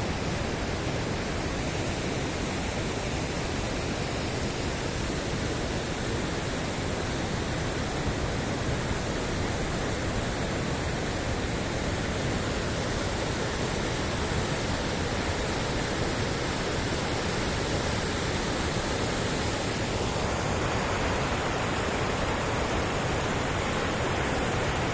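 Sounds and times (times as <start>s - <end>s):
rushing water roar: 0.0s - 24.9s.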